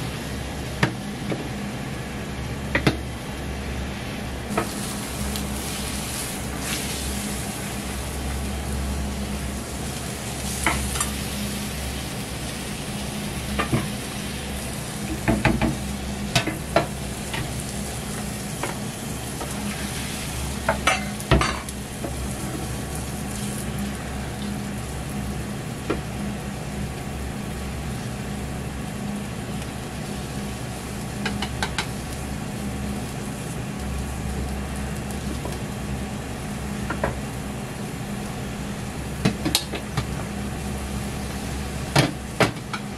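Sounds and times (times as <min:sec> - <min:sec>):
steady low hum: 0:00.0 - 0:42.9
egg sizzling in a pan: 0:04.5 - 0:42.9.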